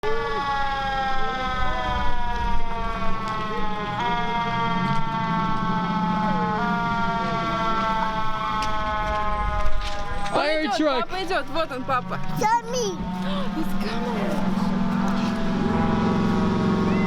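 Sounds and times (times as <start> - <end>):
fire engine siren wailing: 0.0 - 17.0
truck engine rumble: 0.0 - 17.0.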